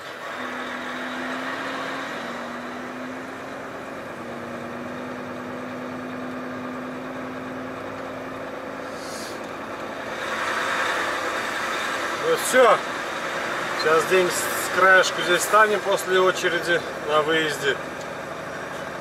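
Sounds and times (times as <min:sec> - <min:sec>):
truck diesel engine droning: 0:00.0 - 0:19.0.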